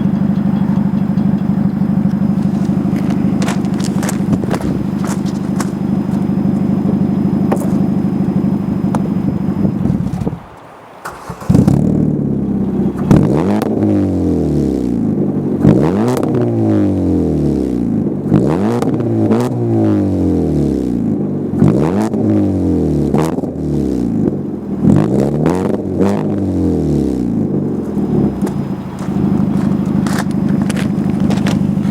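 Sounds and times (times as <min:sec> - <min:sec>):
car engine idling and revving: 0:00.0 - 0:31.9.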